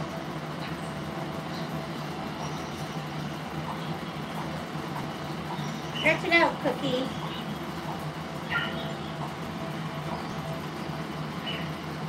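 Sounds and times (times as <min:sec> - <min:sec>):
machine hum with hiss: 0:00.0 - 0:12.0.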